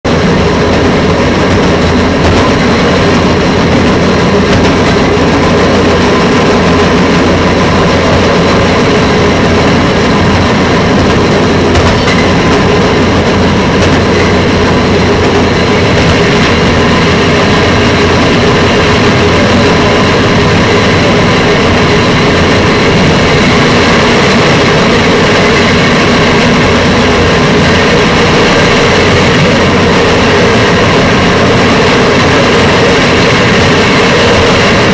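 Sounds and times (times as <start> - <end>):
train engine drone: 0.0 - 34.9
wheel-on-rail noise: 0.1 - 34.9.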